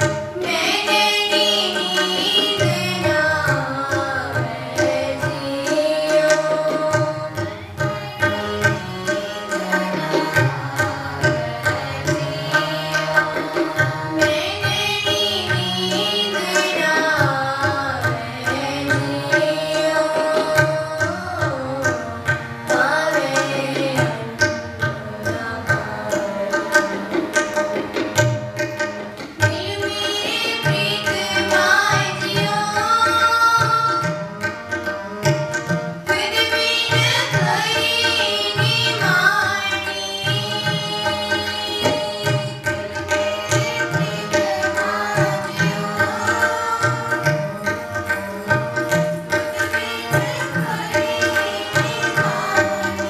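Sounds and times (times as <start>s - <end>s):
girls singing: 0.0s - 24.4s, 29.5s - 34.2s, 36.1s - 48.5s, 49.3s - 53.0s
harmonium chords: 0.0s - 53.0s
tabla playing: 0.0s - 53.0s.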